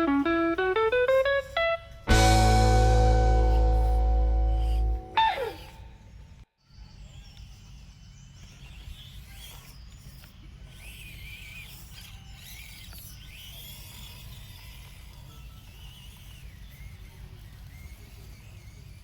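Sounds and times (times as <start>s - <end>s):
small electric motor whining: 0.0s - 6.0s, 7.1s - 19.0s.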